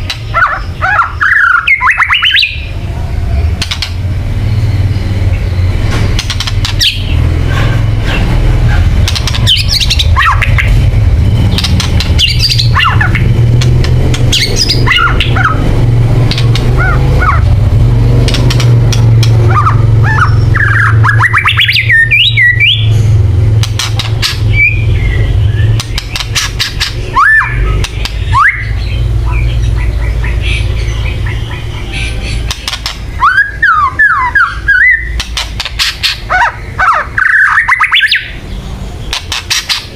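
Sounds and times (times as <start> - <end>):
songbird squawks and chirps: 0.0 - 10.8, 11.5 - 13.4, 14.1 - 17.8, 18.9 - 23.1, 23.8 - 39.9
steady low hum: 0.0 - 39.9.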